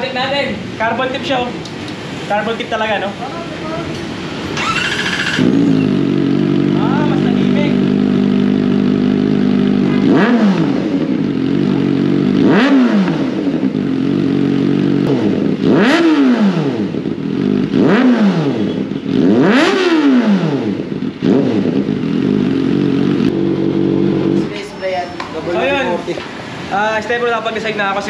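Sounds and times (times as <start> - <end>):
motorcycle engine idling and revving: 0.0 - 28.0.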